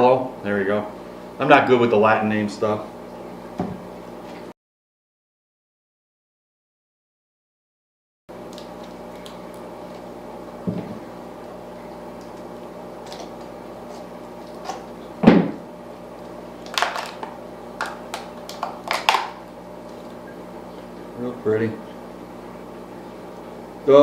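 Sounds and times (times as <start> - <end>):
steady hum: 0.0 - 4.5, 8.3 - 24.0.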